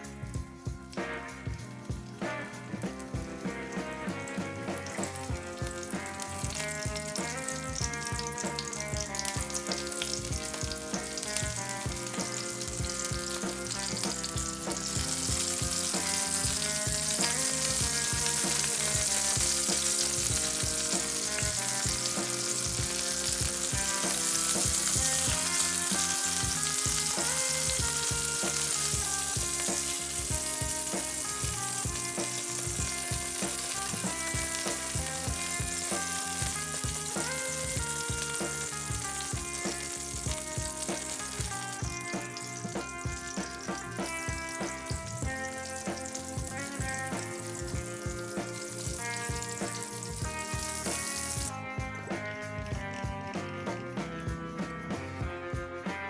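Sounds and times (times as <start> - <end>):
background music: 0.0 - 56.0
vegetables sizzling in oil: 0.9 - 52.8.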